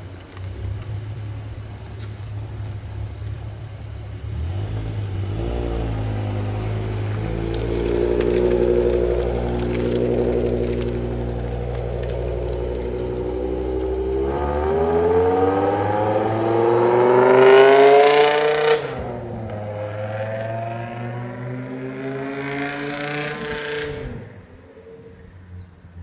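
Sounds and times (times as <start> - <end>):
car engine revving: 0.0 - 25.2.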